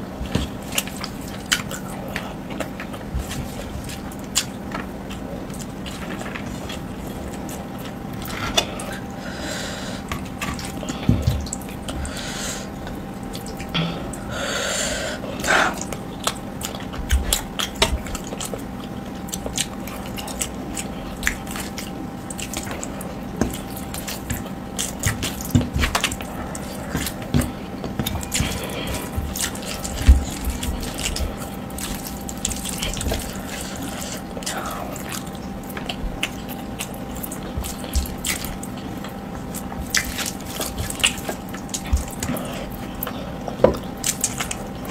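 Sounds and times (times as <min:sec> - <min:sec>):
chewing: 0:00.0 - 0:14.3, 0:15.2 - 0:44.9
faint steady hum: 0:00.0 - 0:44.9.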